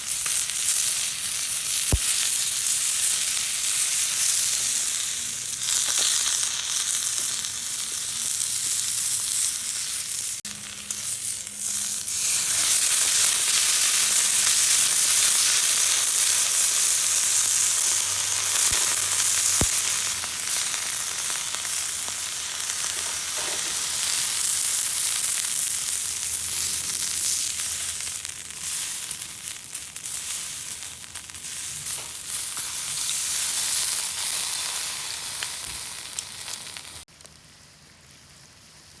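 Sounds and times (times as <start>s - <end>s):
food sizzling in oil: 0.0s - 37.1s.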